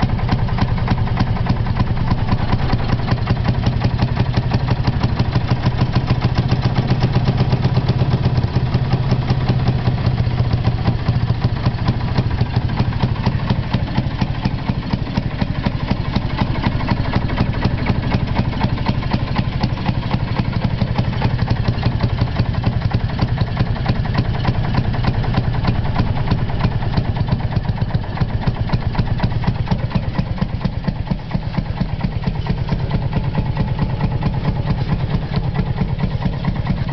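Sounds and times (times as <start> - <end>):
rail speeder engine chugging: 0.0 - 36.9.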